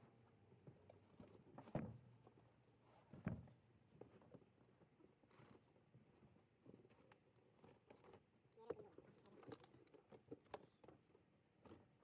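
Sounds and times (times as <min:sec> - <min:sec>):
light clicks and rustling: 0:00.6 - 0:12.0.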